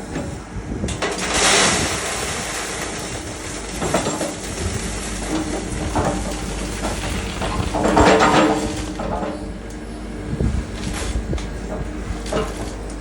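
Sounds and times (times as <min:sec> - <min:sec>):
heavy machinery rumbling: 0:00.0 - 0:13.0.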